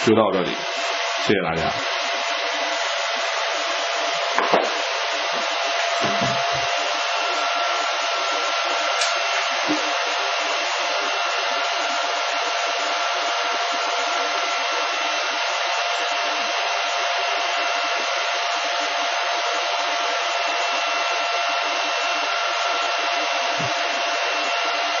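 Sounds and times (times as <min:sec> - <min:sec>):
cooling fans whining: 0:00.0 - 0:25.0.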